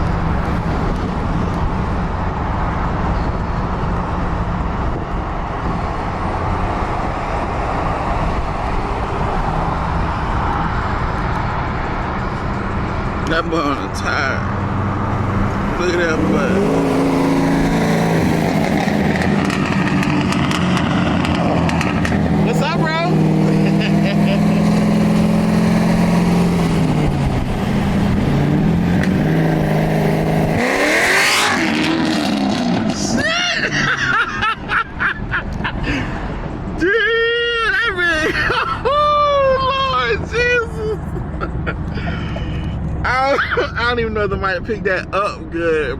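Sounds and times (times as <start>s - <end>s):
car engine droning: 0.0s - 45.9s
road noise: 0.0s - 45.9s.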